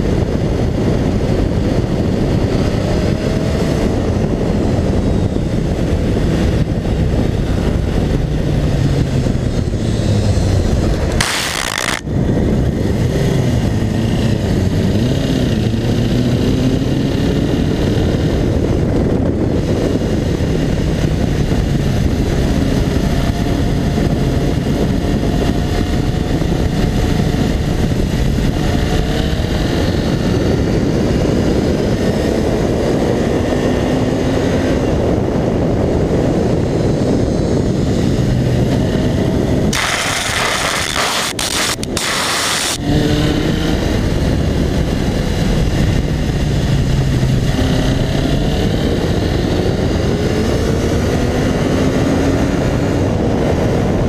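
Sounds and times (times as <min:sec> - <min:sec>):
motorcycle engine revving: 0:00.0 - 0:54.0
wind noise: 0:00.0 - 0:54.0.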